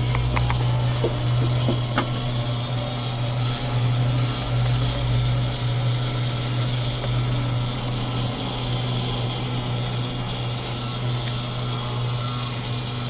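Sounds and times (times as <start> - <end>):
helicopter turbine humming: 0.0 - 13.0.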